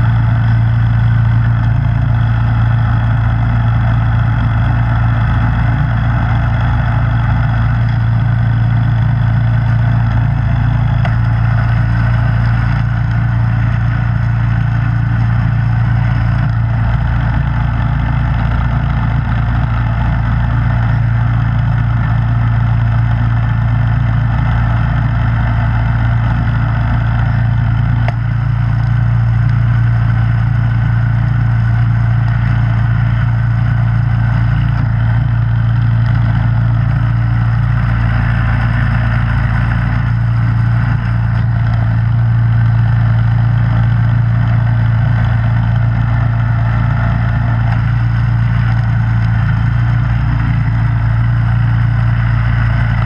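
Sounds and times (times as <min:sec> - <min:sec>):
snowblower engine running: 0:00.0 - 0:53.0.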